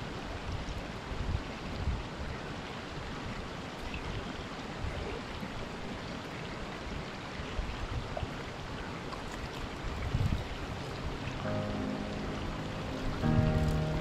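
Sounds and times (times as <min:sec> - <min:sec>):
river water running over stones: 0:00.0 - 0:14.0.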